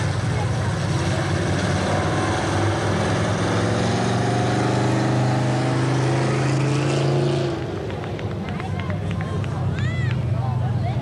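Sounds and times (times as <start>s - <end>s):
engine running at high revs: 0.0s - 11.0s.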